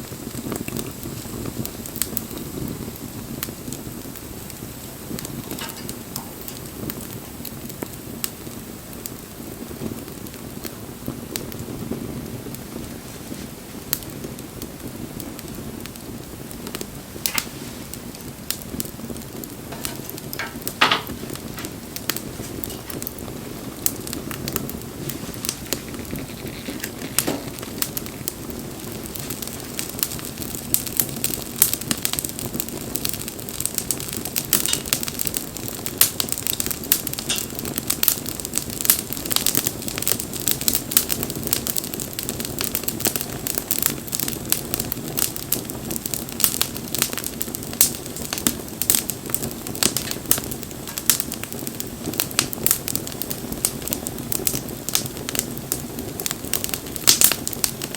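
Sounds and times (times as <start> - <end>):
wood bonfire crackling: 0.0 - 57.9.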